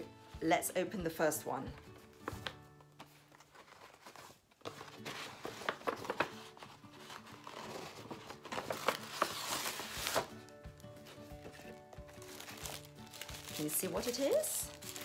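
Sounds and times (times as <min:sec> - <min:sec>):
background music: 0:00.0 - 0:15.0
paper packaging rustling: 0:01.8 - 0:15.0.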